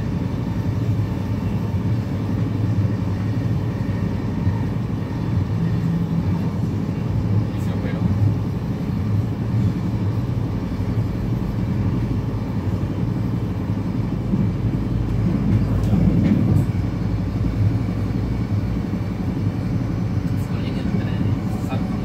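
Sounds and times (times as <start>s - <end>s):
train rumble inside carriage: 0.0s - 22.0s.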